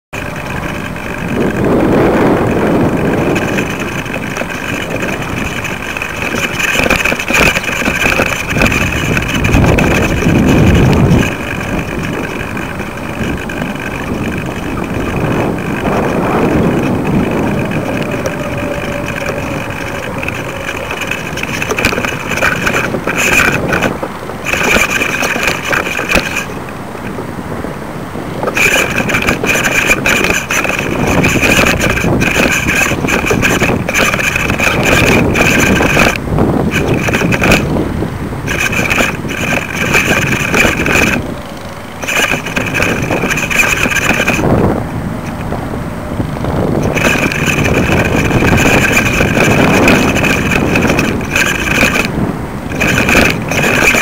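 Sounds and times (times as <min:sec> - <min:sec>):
wind buffeting microphone: 0:00.1 - 0:54.0
rattling clicks: 0:00.2 - 0:27.2, 0:28.4 - 0:37.8, 0:38.4 - 0:44.6, 0:46.4 - 0:54.0.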